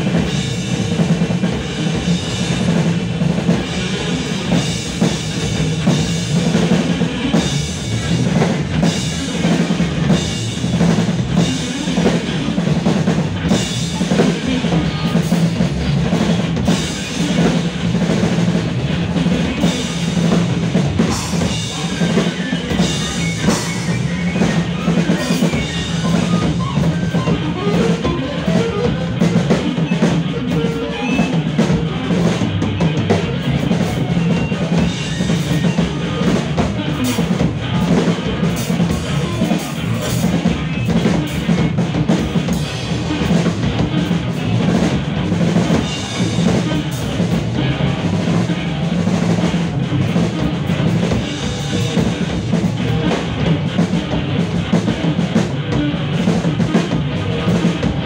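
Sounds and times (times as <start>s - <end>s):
bass guitar with effects: 0.0s - 58.0s
drum kit played busily: 0.0s - 58.0s.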